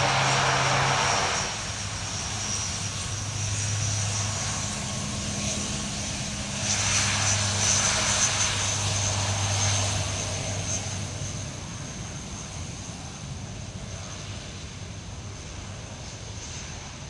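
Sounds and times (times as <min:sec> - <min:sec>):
high turbine whine: 0:00.0 - 0:17.0
propeller drone: 0:00.0 - 0:17.0.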